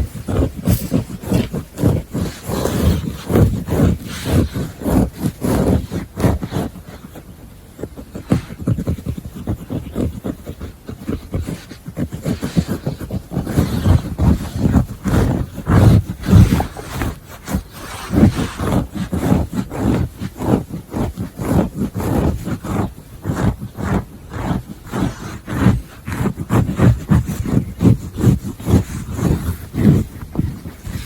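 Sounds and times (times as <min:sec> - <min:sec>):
scratching on fabric: 0:00.0 - 0:31.0.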